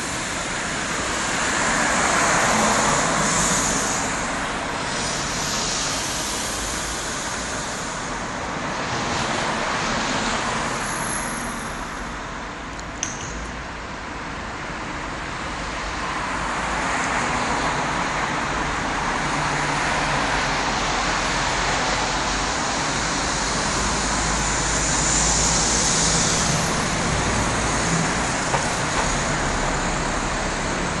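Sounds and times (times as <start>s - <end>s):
passing vehicles hiss: 0.0s - 31.0s.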